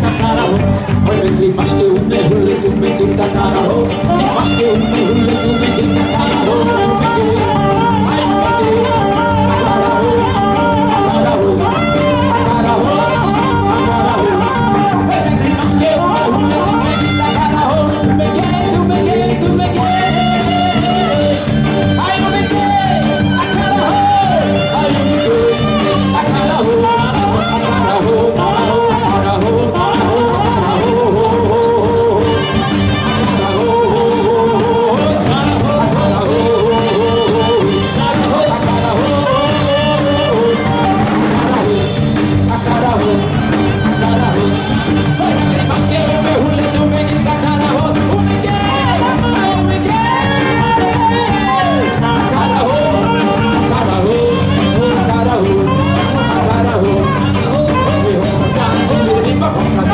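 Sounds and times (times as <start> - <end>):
bass guitar: 0.0 - 59.9
drum kit: 0.0 - 59.9
man singing into a microphone: 0.0 - 59.9
saxophone melody: 0.0 - 59.9.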